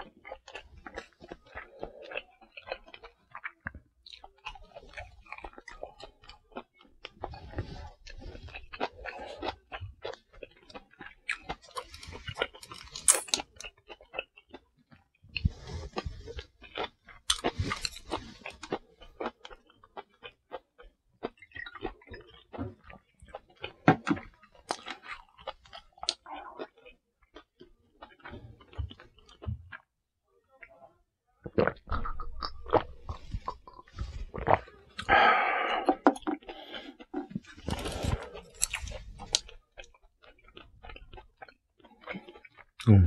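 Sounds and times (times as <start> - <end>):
wet chewing and lip smacking: 0.0 - 29.9, 31.5 - 35.2, 35.8 - 42.9.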